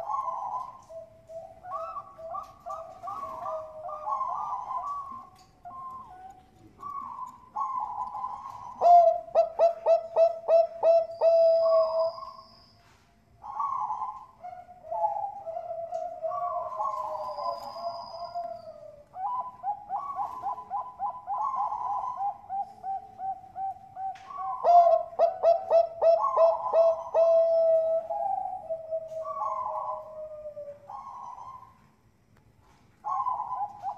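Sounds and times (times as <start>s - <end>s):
dove cooing: 0.0s - 31.8s, 32.6s - 33.9s.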